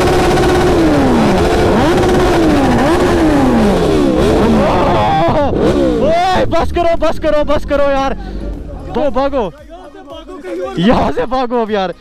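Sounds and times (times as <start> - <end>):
motorcycle engines revving: 0.0 - 9.7.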